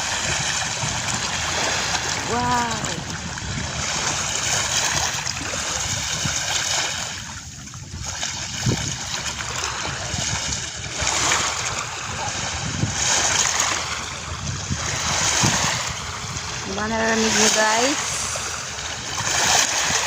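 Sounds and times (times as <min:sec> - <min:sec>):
waves splashing on a beach: 0:00.0 - 0:20.0.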